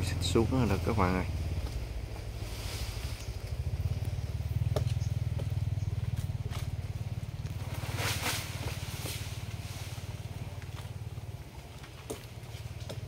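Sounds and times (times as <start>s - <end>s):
chainsaw engine idling: 0.0s - 13.0s.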